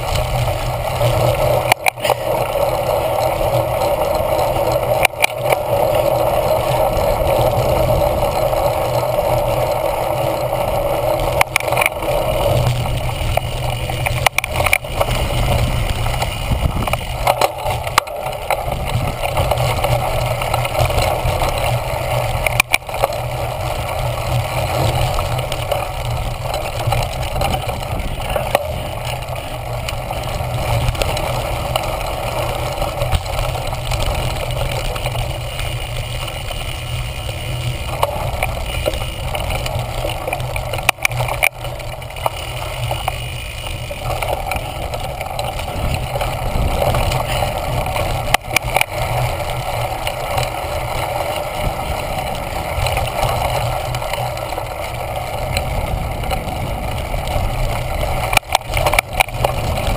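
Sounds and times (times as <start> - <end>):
bike rattling over bumpy grass: 0.0 - 59.9.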